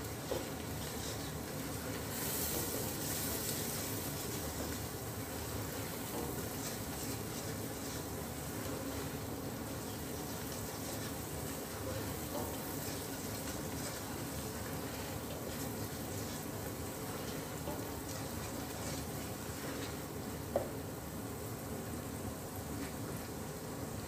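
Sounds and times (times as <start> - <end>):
onions sizzling in a pot: 0.0 - 24.0
spoon stirring and scraping: 0.2 - 20.2.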